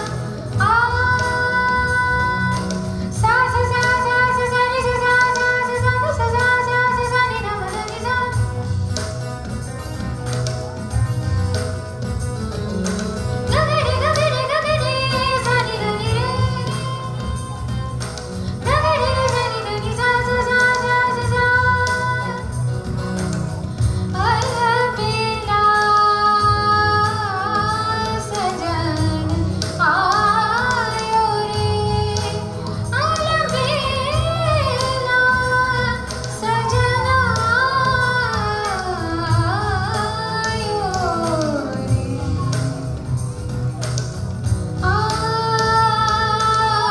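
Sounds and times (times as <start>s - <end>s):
woman singing into a microphone: 0.0s - 46.9s.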